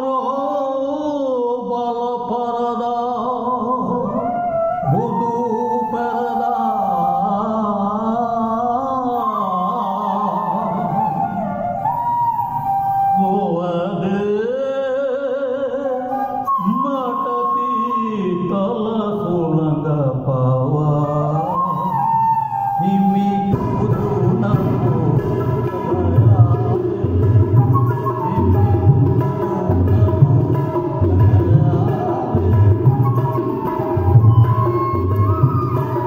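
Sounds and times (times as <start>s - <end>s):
elderly man singing: 0.0s - 11.2s, 13.1s - 22.1s, 22.8s - 34.0s.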